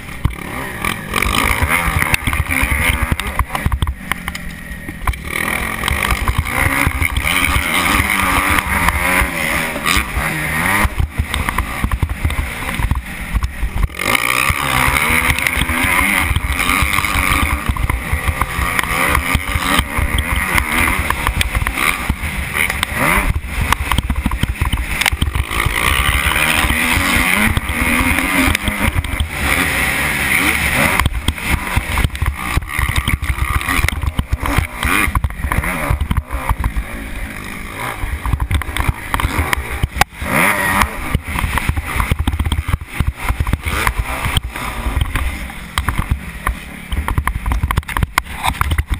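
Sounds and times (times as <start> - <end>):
motocross engine revving: 0.0 - 48.9.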